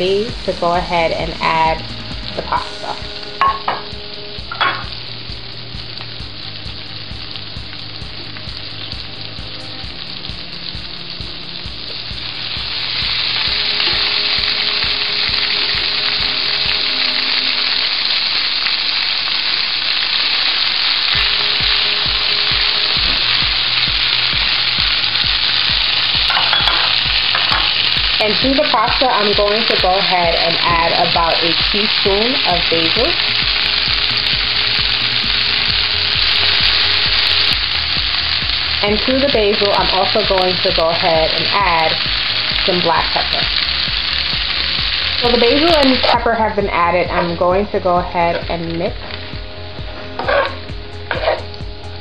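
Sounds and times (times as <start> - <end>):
shrimp sizzling in oil: 0.0 - 52.0.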